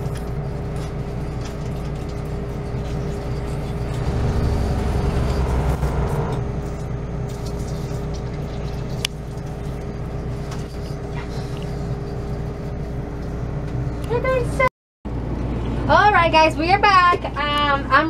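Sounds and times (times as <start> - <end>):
steady machine hum: 0.0 - 17.1.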